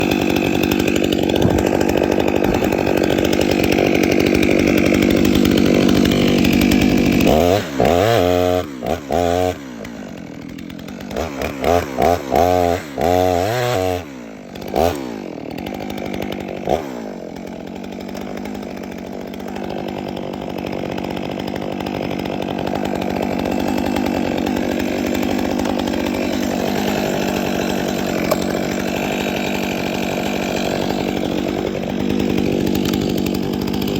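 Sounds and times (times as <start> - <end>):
chainsaw cutting wood: 0.0 - 33.9
chainsaw throttle revving: 0.0 - 33.9.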